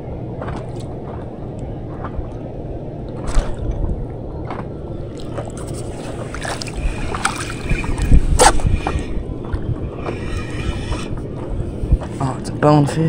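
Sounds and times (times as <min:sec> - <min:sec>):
wind rumbling on microphone: 0:00.0 - 0:13.0
water lapping at paddleboard: 0:00.3 - 0:12.4.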